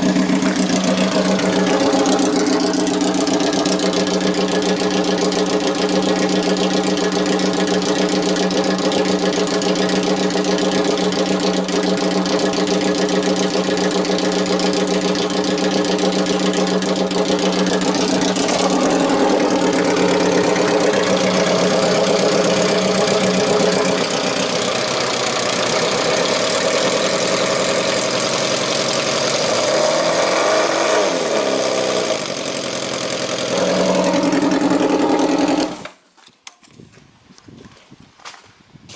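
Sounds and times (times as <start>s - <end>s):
motorcycle engine idling and revving: 0.0s - 36.1s.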